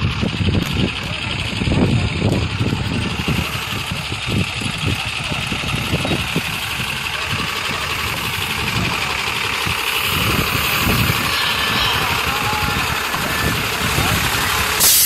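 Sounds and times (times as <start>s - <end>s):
diesel truck engine idling: 0.0s - 15.0s
voices: 0.0s - 15.0s.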